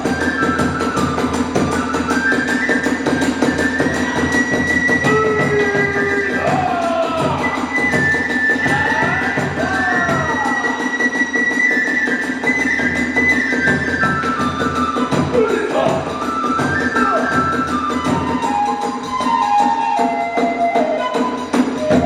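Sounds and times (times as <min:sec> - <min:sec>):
drums beating quick rhythm: 0:00.0 - 0:22.0
high flute melody: 0:00.0 - 0:22.0.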